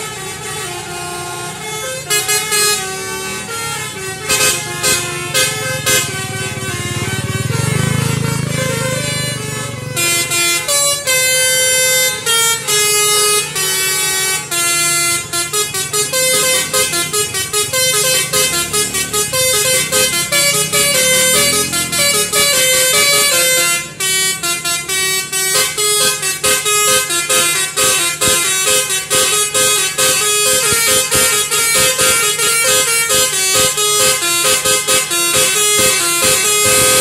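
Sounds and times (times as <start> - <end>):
multi-tone bus horn melody: 0.0 - 37.0.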